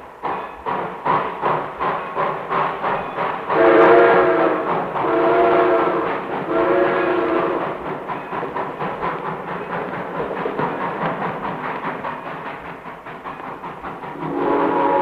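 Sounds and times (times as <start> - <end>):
steam train chuffing: 0.0 - 15.0.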